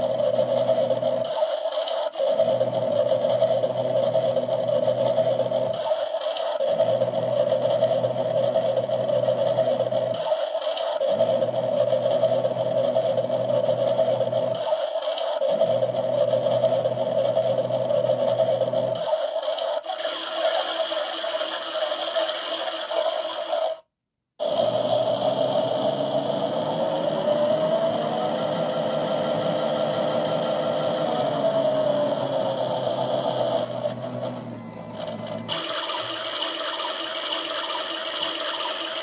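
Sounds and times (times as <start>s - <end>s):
washing machine motor humming: 0.0s - 23.7s, 24.4s - 39.0s
washing machine whine: 0.0s - 39.0s.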